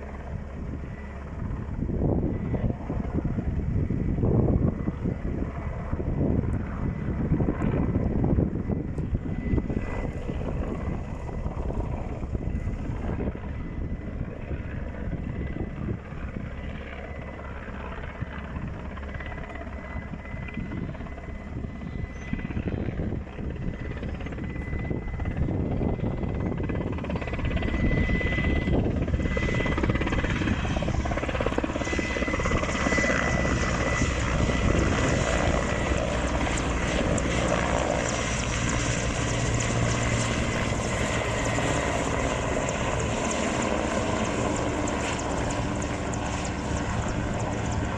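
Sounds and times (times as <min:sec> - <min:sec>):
helicopter rotor beat: 0:00.0 - 0:47.9
thin steady whine: 0:07.5 - 0:47.9.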